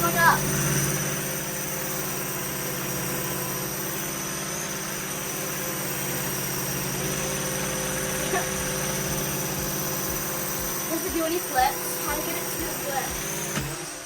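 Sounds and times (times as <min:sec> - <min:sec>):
toy drone motor whirring: 0:00.0 - 0:14.0.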